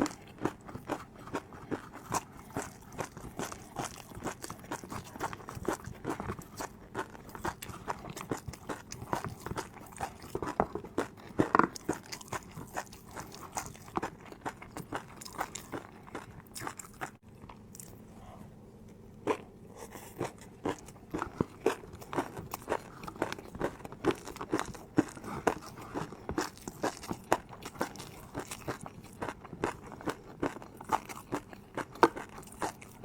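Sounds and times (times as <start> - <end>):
crunching and chewing noodles: 0.0 - 33.0.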